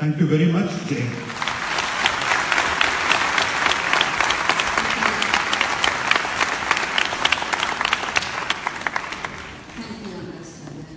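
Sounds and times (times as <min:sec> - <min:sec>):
audience applauding: 0:01.0 - 0:09.8.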